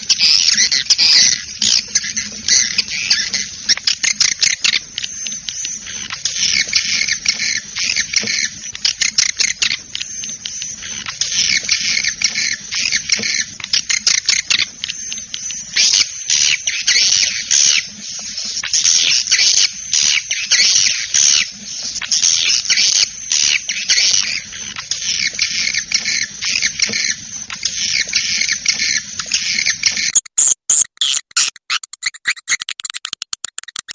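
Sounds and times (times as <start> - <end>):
swiftlet chirps and clicks: 0.0 - 33.9.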